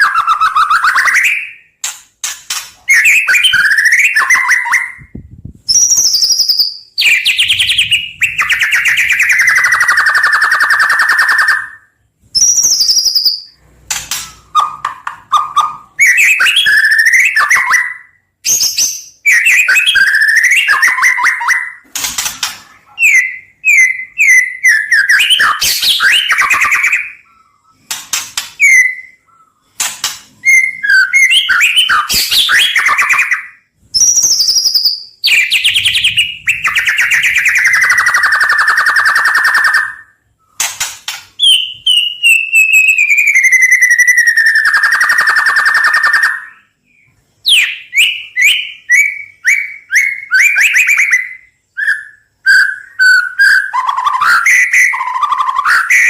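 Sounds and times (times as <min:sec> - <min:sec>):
songbird whistling: 0:02.8 - 0:21.8, 0:22.9 - 0:27.9, 0:28.6 - 0:29.7, 0:30.4 - 0:40.6, 0:41.4 - 0:56.0.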